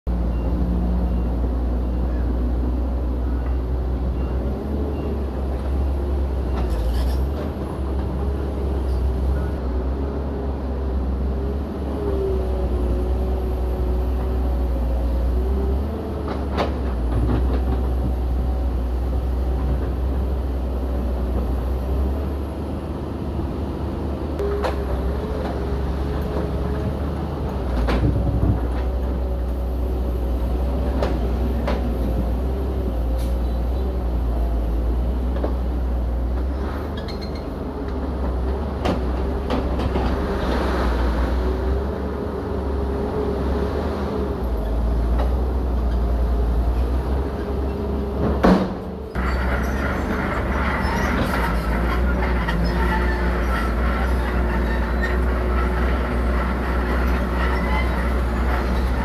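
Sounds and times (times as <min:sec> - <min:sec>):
heavy diesel machinery rumbling: 0:00.1 - 0:59.0.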